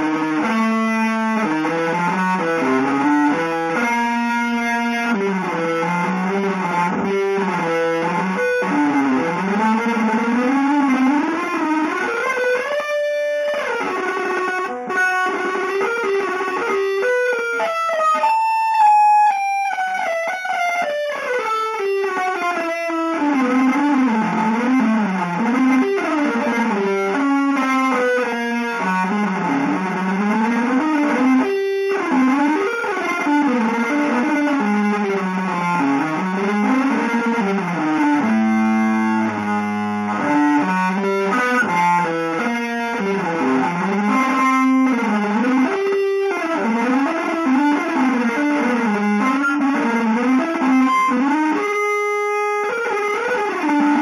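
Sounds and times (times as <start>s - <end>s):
electric guitar improvising: 0.0s - 54.0s.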